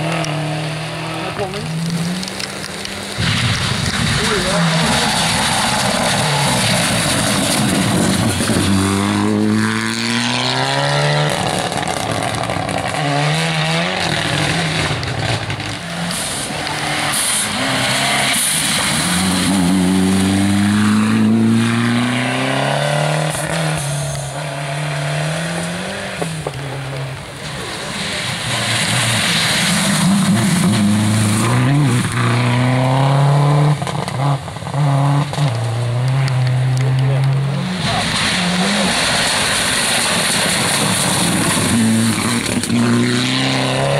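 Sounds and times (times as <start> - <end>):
rally car engines revving: 0.0 - 43.9
tyres throwing wet gravel: 0.3 - 13.0, 14.0 - 32.7, 37.6 - 43.9.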